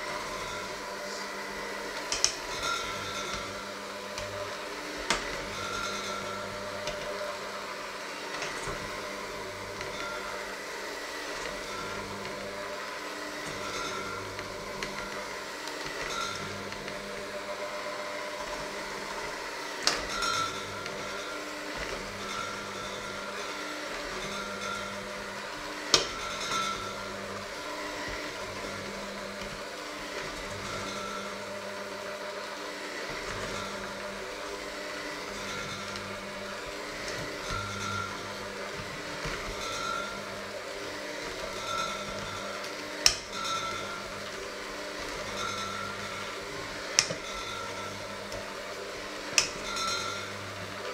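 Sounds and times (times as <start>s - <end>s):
electric hand mixer running: 0.0s - 50.9s.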